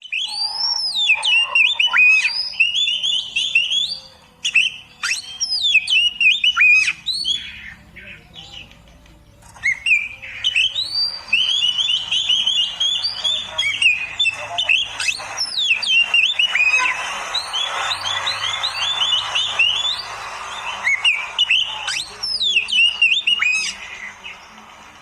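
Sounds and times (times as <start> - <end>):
magpie-robin singing: 0.0 - 25.0.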